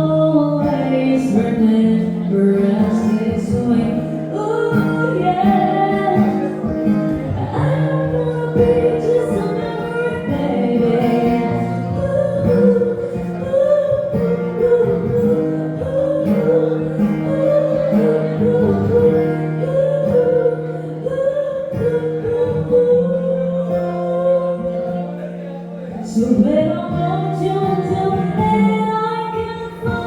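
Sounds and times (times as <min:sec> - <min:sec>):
woman singing: 0:00.0 - 0:25.3, 0:25.9 - 0:30.0
acoustic guitar: 0:00.0 - 0:30.0.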